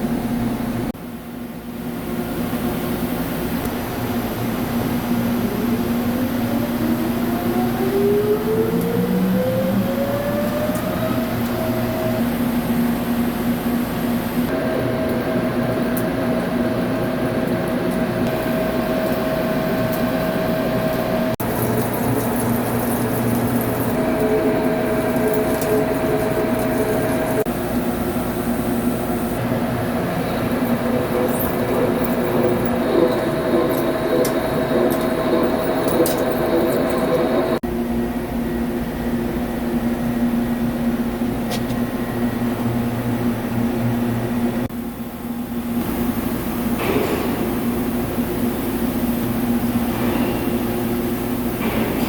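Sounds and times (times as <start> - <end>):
lathe humming and whining: 1.9 - 44.7.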